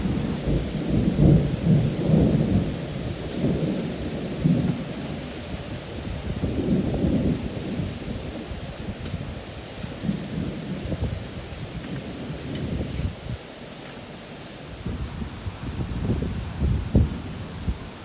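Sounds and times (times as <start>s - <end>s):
storm wind buffeting microphone: 0.0s - 13.5s, 14.6s - 18.0s
steady hiss: 0.0s - 18.0s.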